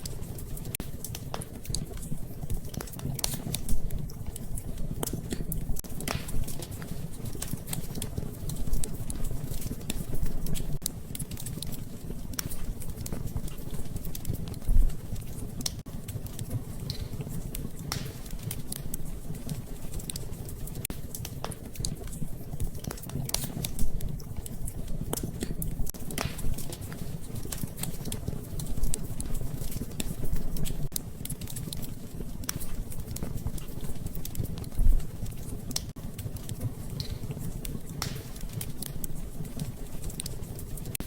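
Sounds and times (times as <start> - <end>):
fire crackling: 0.0 - 41.0
low rumble of flames: 0.0 - 41.0
sharp pops and snaps: 0.0 - 41.0.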